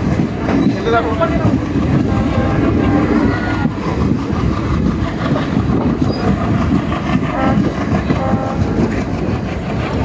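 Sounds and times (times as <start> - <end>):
train wheels on rails clattering: 0.0 - 10.0.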